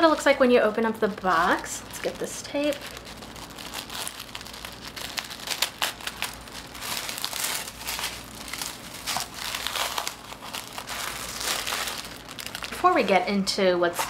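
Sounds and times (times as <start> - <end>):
paper packaging crinkling: 0.0 - 13.4.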